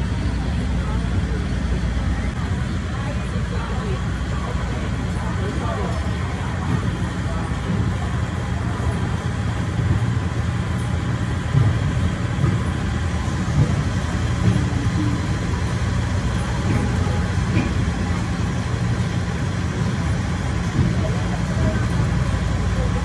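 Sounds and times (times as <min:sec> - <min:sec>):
ride train rumbling on track: 0:00.0 - 0:23.0.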